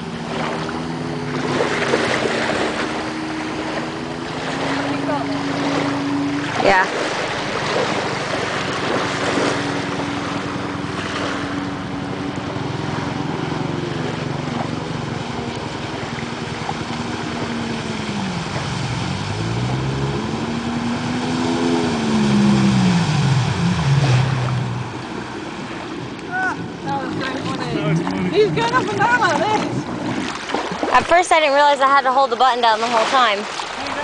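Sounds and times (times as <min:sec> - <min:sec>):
jet ski engine running: 0:00.0 - 0:34.0
water noise: 0:00.0 - 0:34.0
wind: 0:00.0 - 0:34.0.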